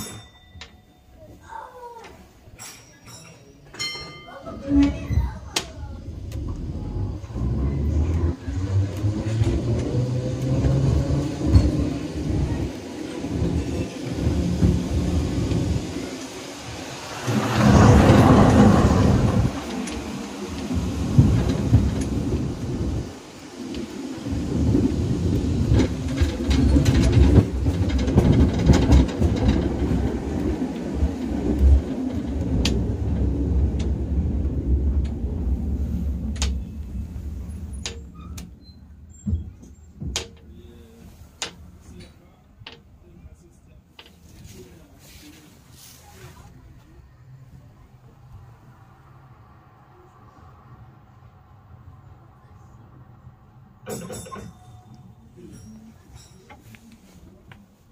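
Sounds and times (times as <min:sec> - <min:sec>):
tram rumbling along track: 0:00.0 - 0:57.9.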